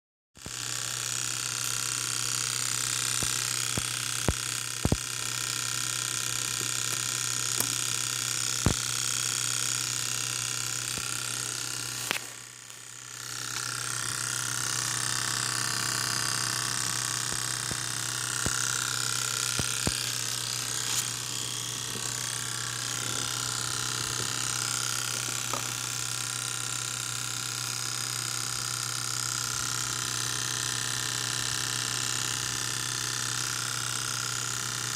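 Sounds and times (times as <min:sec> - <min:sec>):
steady hum: 0:00.4 - 0:34.9.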